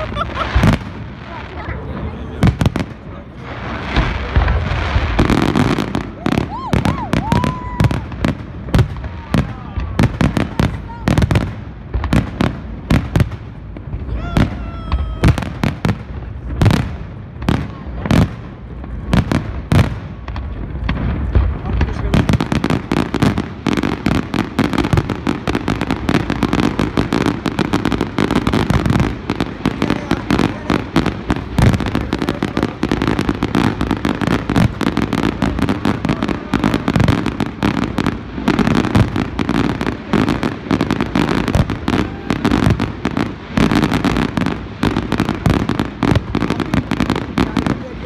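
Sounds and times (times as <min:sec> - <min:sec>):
fireworks bursting: 0:00.0 - 0:48.0.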